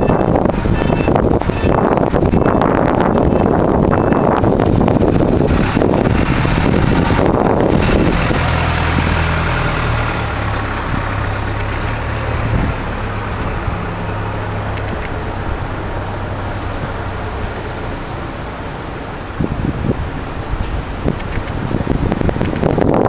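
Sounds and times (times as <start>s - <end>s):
loud rushing noise: 0.0s - 23.0s
tractor engine running: 0.0s - 23.0s.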